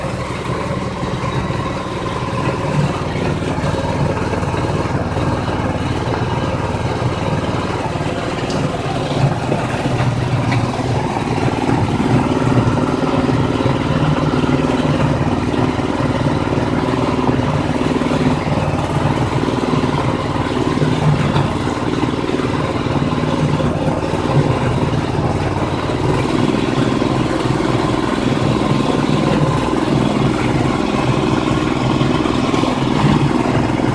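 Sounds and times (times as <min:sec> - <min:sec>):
feed blender machine humming: 0:00.0 - 0:33.9.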